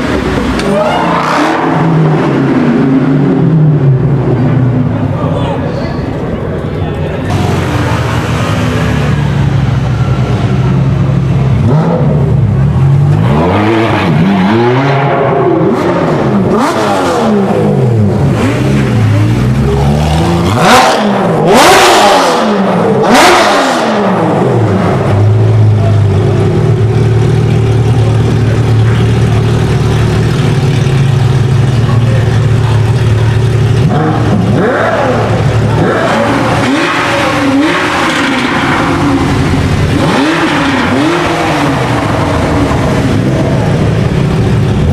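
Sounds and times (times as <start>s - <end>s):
loud sharp exhaust blasts: 0.0s - 44.9s
sports car engines revving: 0.0s - 44.9s.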